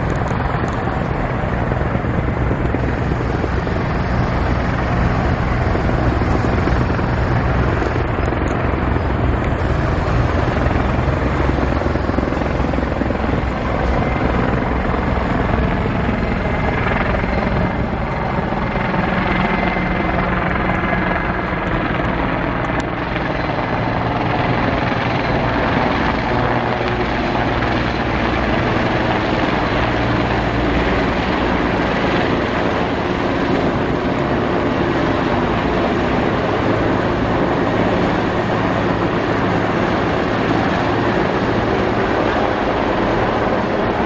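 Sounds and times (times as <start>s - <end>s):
helicopter flying past: 0.0s - 44.0s.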